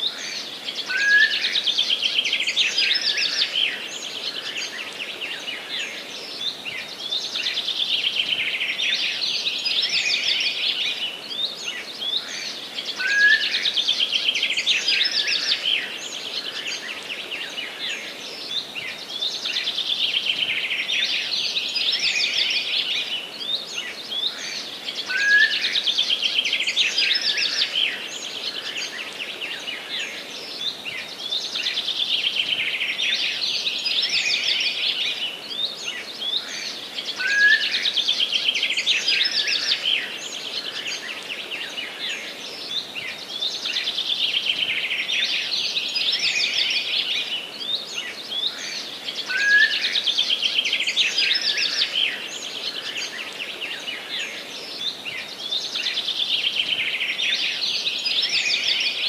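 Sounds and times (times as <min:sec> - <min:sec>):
songbirds twittering: 0:00.0 - 0:59.0.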